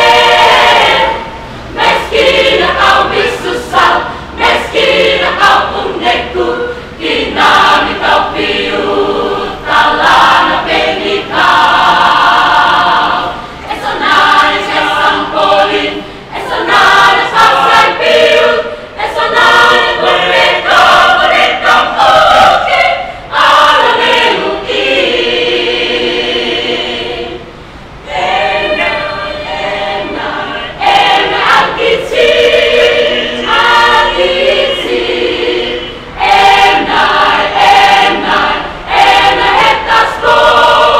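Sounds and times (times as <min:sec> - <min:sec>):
mixed choir singing: 0:00.0 - 0:40.9.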